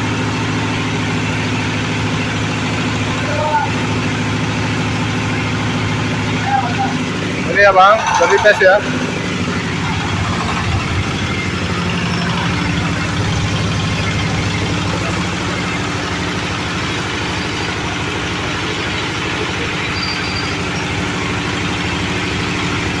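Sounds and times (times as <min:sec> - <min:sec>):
thresher machine engine running: 0:00.2 - 0:19.8.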